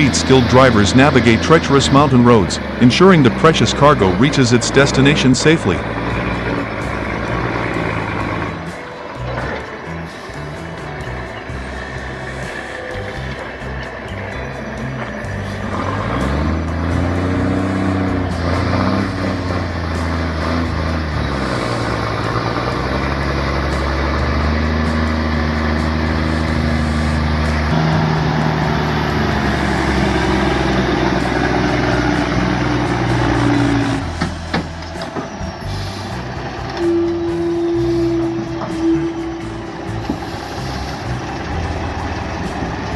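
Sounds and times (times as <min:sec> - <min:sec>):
background music: 0:00.0 - 0:42.9
heavy truck engine under load: 0:00.0 - 0:42.9.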